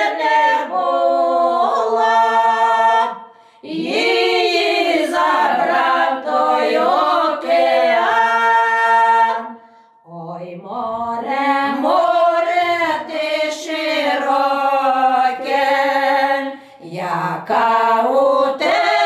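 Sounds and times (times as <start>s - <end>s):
women singing folk song in harmony: 0.0s - 19.0s.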